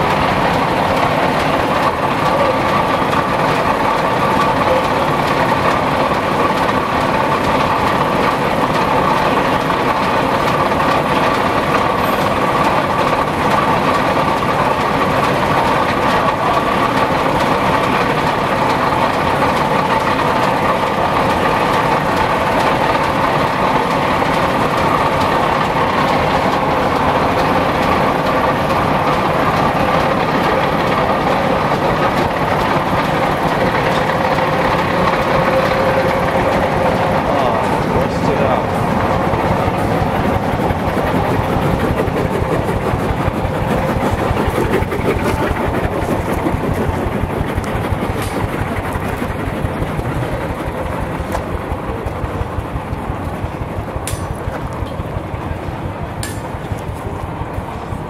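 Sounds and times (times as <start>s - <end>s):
machinery clattering: 0.0s - 58.0s
steady machine hum: 0.0s - 58.0s.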